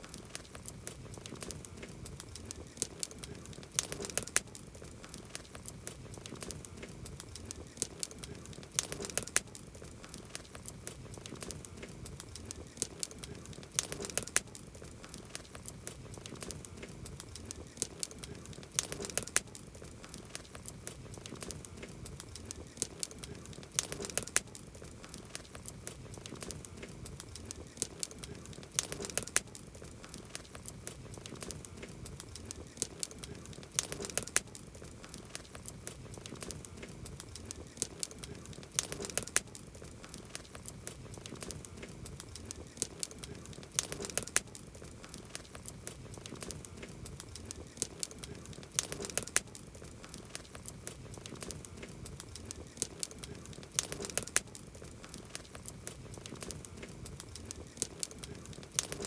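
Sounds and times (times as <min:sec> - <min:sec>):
campfire crackling and popping: 0:00.0 - 0:59.0
low fire hiss: 0:00.0 - 0:59.0.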